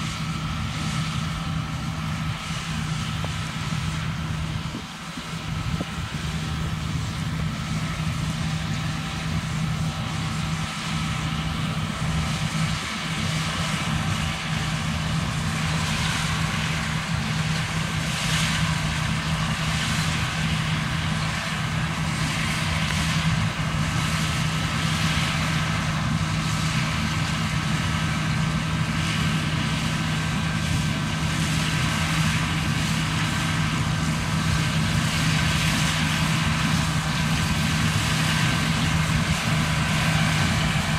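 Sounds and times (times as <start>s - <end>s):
combine harvester engine hum: 0.0s - 40.9s.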